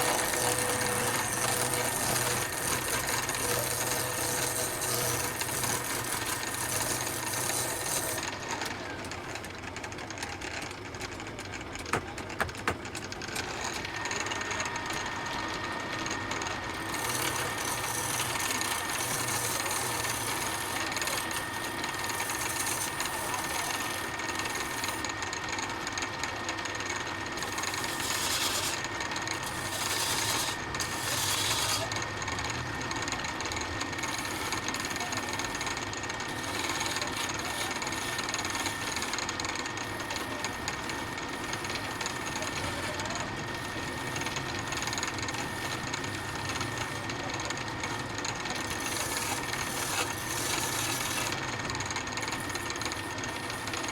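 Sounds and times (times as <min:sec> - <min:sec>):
power tool whining on wood: 0:00.0 - 0:09.5, 0:13.0 - 0:53.9.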